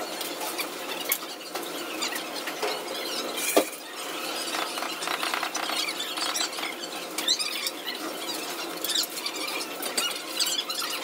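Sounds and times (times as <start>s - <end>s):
high squeaks and clicks: 0.5s - 11.0s.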